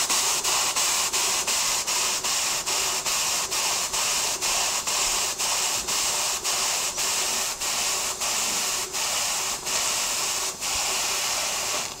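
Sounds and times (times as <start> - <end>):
steam engine hissing: 0.0 - 12.0.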